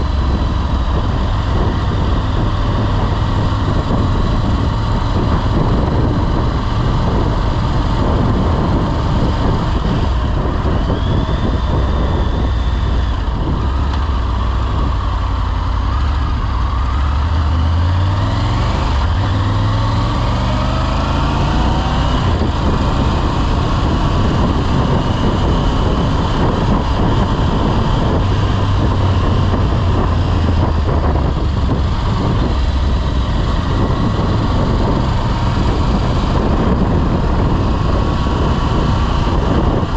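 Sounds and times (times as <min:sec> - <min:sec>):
motorcycle engine running: 0:00.0 - 0:39.9
road and riding noise: 0:00.0 - 0:39.9.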